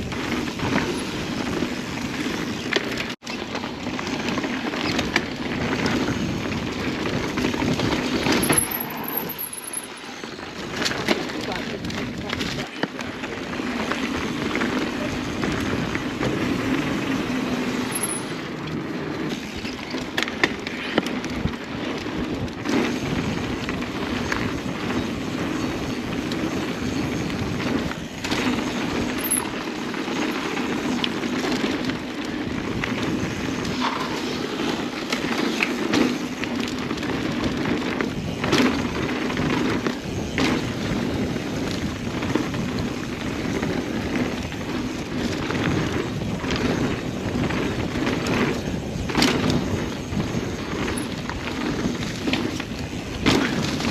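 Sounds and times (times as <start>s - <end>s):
bike clattering over bumps: 0.0s - 53.9s
bike tyres rolling on dirt: 0.0s - 53.9s.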